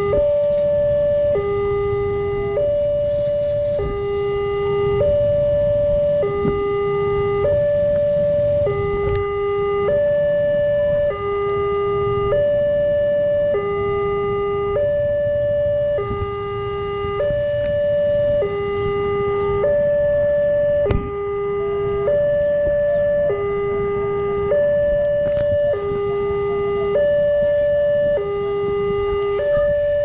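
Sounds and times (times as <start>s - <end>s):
level crossing two-tone alarm: 0.0s - 30.0s.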